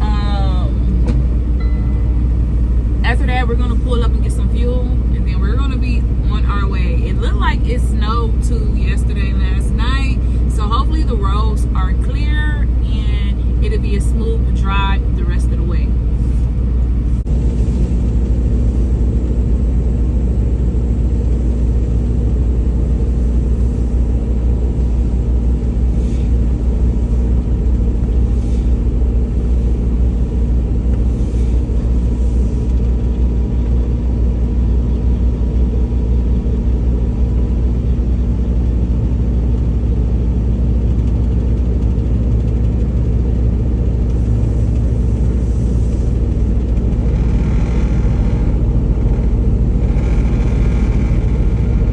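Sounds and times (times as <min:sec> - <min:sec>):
steady hum: 0:00.0 - 0:51.9
truck engine and road rumble: 0:00.0 - 0:51.9.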